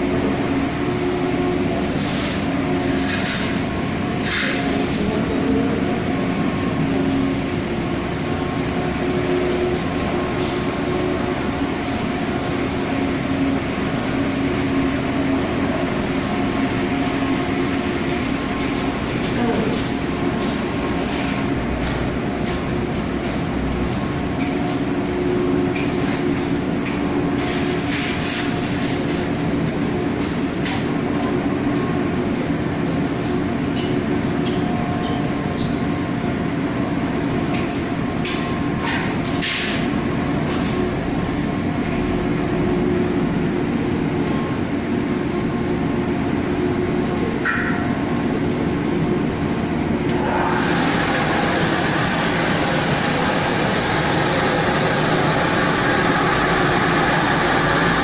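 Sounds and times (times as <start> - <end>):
machinery humming and rumbling: 0.0 - 58.0.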